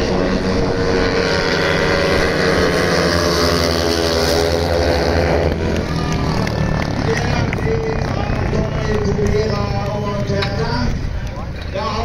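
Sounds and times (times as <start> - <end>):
motorbike engines racing: 0.0 - 12.0.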